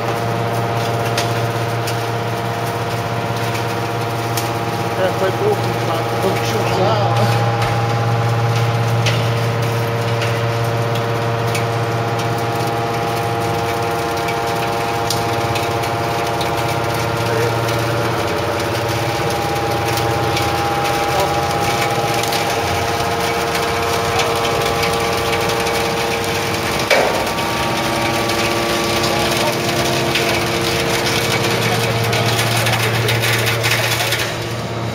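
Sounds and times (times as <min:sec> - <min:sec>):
hydraulic power pack humming: 0:00.0 - 0:34.9.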